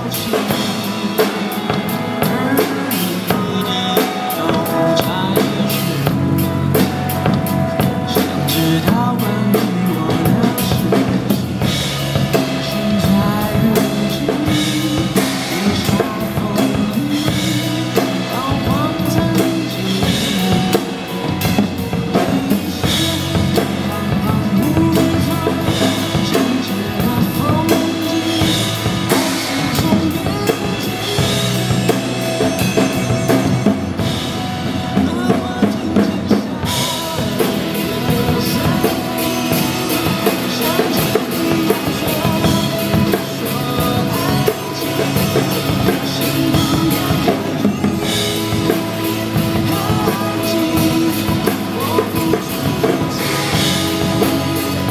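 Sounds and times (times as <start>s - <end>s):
acoustic drum kit playing: 0.0s - 54.9s
pop song backing track: 0.0s - 54.9s.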